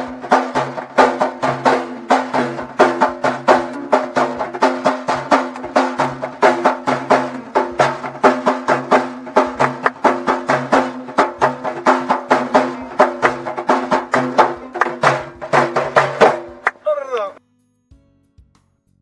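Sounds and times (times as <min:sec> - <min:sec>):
frame drum struck by hand: 0:00.0 - 0:16.8.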